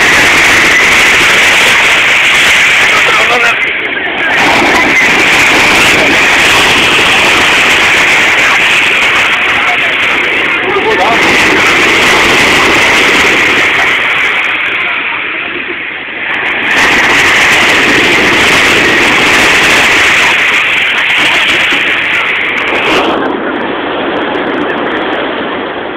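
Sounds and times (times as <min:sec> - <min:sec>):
surf breaking on shore: 0:00.0 - 0:25.9.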